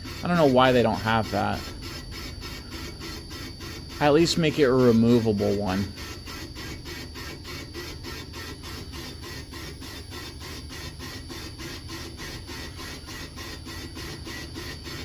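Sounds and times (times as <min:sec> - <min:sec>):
boring tool scraping metal: 0:00.0 - 0:15.0.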